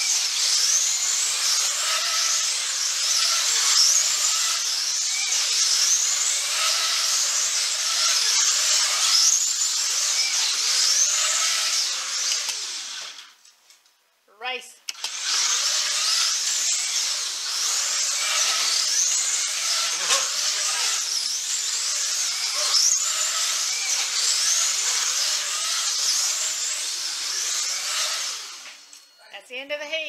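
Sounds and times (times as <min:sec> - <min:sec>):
slot car electric motors whining: 0:00.0 - 0:13.4, 0:15.0 - 0:29.2.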